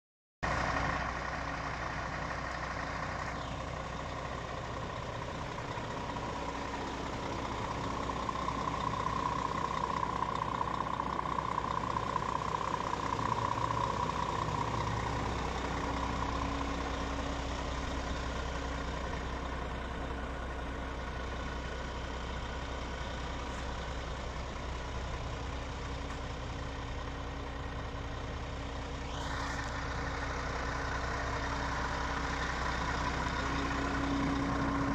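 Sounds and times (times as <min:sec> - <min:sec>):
truck diesel engine idling: 0:00.4 - 0:34.9.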